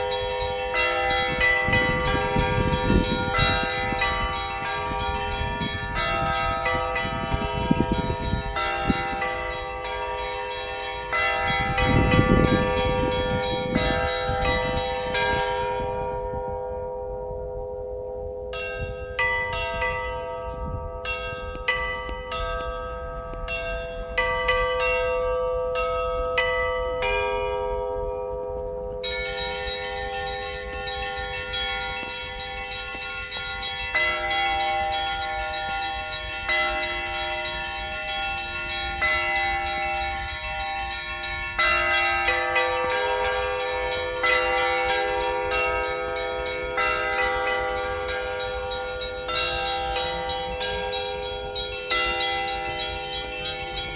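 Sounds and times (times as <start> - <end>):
deep bells humming: 0.0 - 53.9
small bells ringing: 0.0 - 53.9.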